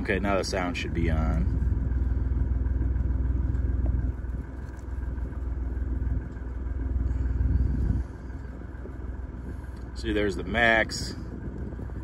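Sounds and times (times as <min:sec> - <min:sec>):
car exhaust idling rumble: 0:00.0 - 0:12.0.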